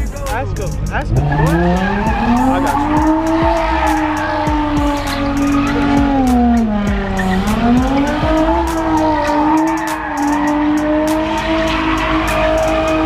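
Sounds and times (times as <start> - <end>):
car engine at high revs: 0.0 - 13.0
tires squealing: 0.0 - 13.0.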